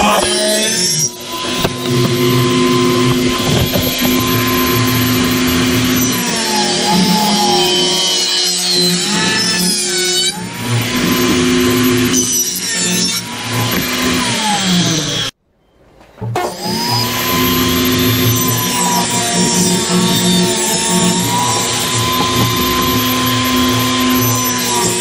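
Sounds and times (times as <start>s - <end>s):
table saw ripping wood: 0.0s - 15.4s, 16.4s - 25.0s.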